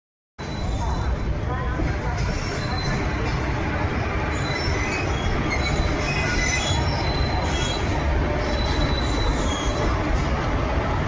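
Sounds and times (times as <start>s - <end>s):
wheels squealing on rails: 0.4s - 1.3s, 2.1s - 10.5s
train rumbling on track: 0.4s - 11.0s.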